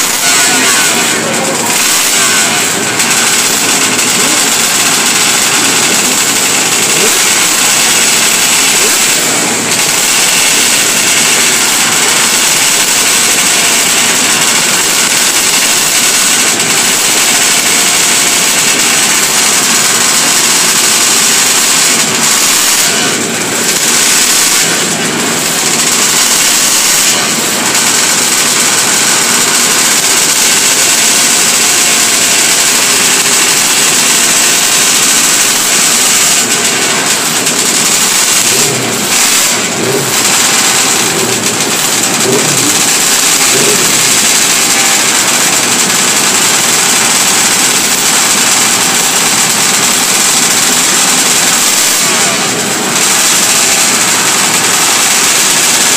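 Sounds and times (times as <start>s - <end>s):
racing motorcycles revving: 0.0s - 55.9s.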